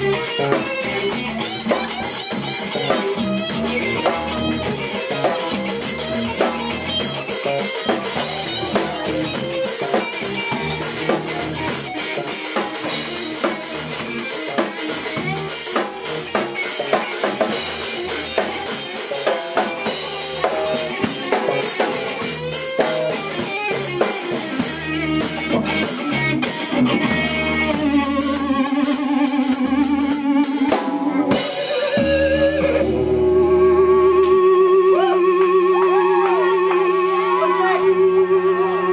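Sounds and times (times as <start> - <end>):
drum kit beat: 0.0 - 36.9
electric guitar: 0.0 - 38.9.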